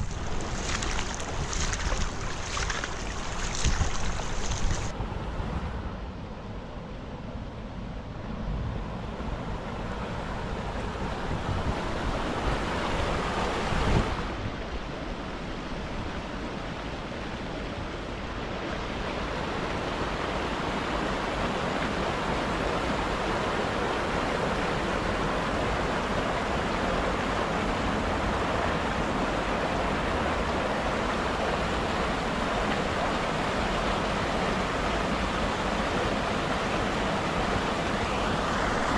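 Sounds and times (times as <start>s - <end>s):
stream rushing over rocks: 0.0s - 5.0s, 10.4s - 38.9s.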